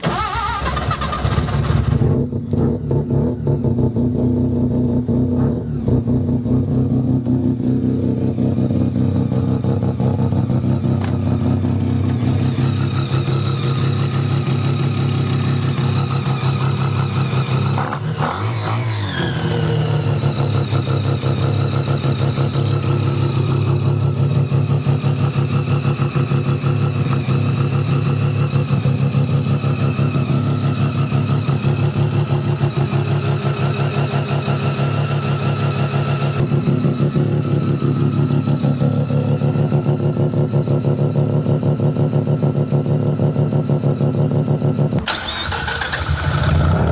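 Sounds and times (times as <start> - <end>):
rotary engine idling and revving: 0.0 - 46.9.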